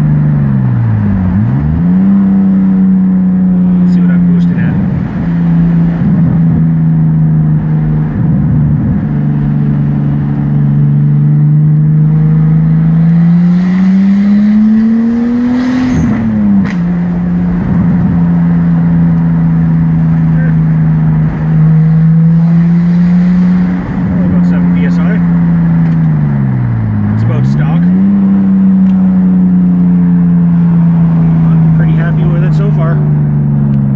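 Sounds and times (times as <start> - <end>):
turbocharged car engine: 0.0 - 33.9.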